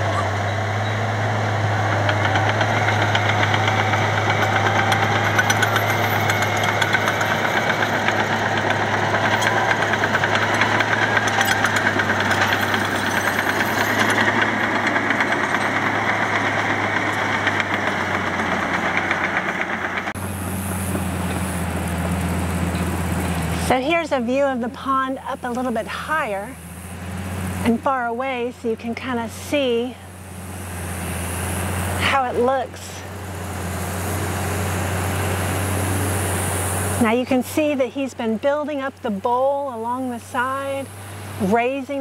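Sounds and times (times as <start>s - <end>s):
bulldozer diesel engine running: 0.0s - 42.0s.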